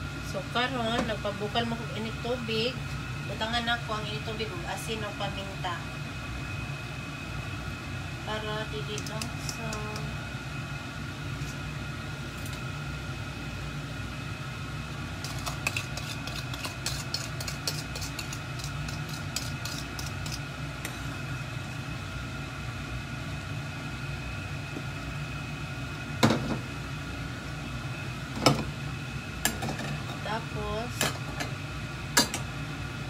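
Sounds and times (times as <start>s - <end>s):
kitchen hum: 0.0s - 33.0s.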